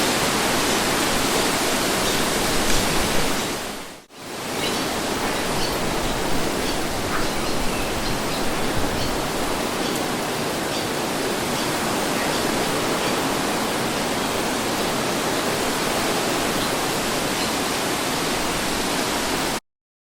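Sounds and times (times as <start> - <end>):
steady rushing wind: 0.0 - 19.6.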